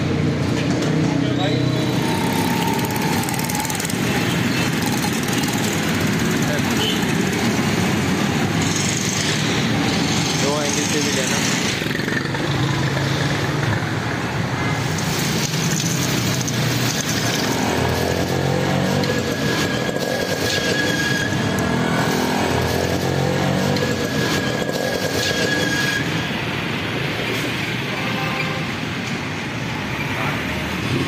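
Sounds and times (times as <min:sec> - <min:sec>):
motorcycle and car engines passing: 0:00.0 - 0:25.3.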